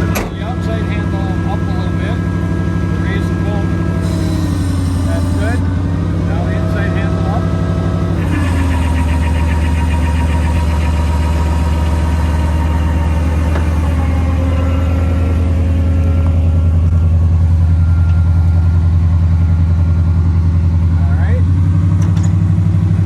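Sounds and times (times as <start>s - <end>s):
truck engine running at low revs: 0.0s - 23.0s.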